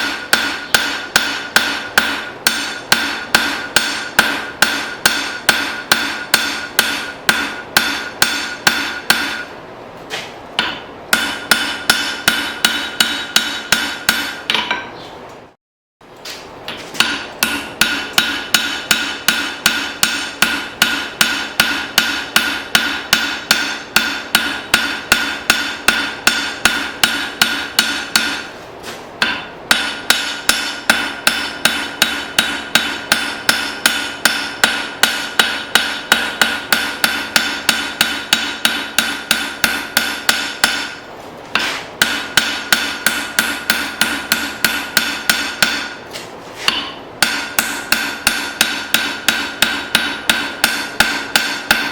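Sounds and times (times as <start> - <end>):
anvil ringing: 0.0 - 9.5, 10.6 - 14.9, 17.0 - 28.5, 29.2 - 41.0, 42.0 - 46.0, 46.7 - 51.9
hammer striking steel on anvil: 0.0 - 9.6, 10.6 - 15.0, 16.7 - 28.6, 29.2 - 51.9.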